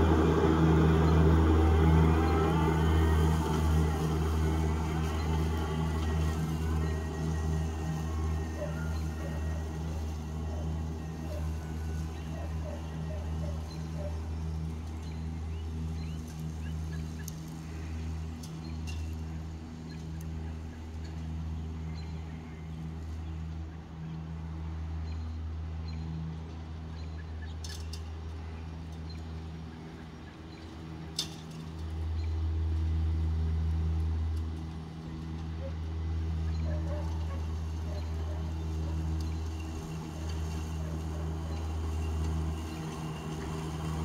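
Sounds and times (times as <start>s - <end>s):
riding mower motor humming: 0.0s - 44.0s.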